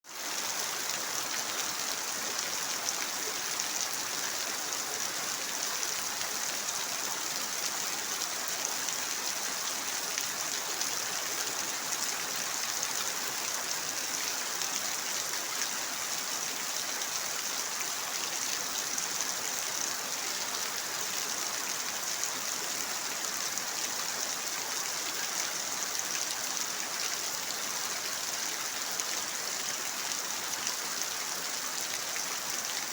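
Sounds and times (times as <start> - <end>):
steady rainfall: 0.0 - 32.9.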